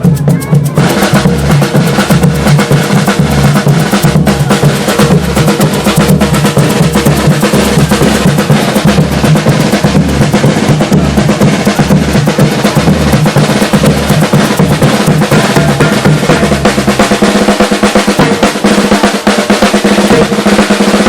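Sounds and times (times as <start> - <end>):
deep bass drum beats: 0.0 - 21.0
drum orchestra playing: 0.0 - 21.0
rapid snare-like strokes: 0.0 - 21.0.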